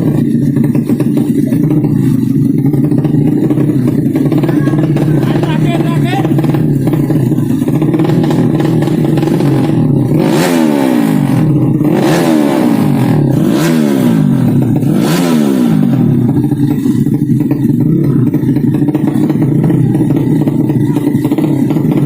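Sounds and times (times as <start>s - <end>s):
motorcycle engine revving at idle: 0.0s - 22.0s.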